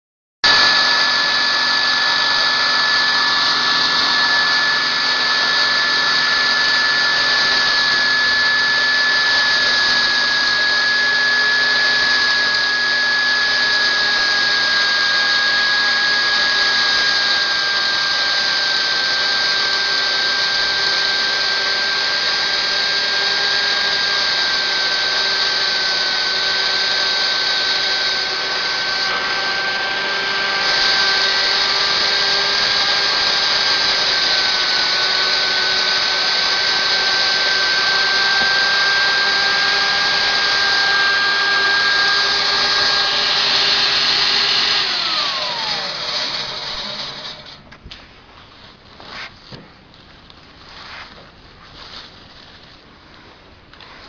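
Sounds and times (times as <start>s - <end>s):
feed crusher whining: 0.4s - 49.7s.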